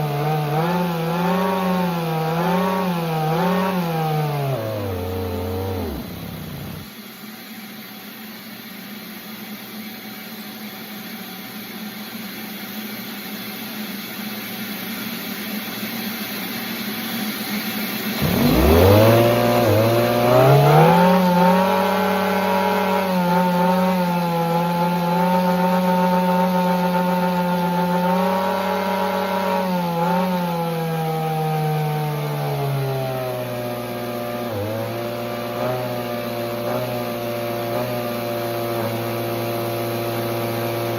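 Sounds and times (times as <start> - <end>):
model turbine engine whine: 0.0 - 40.9.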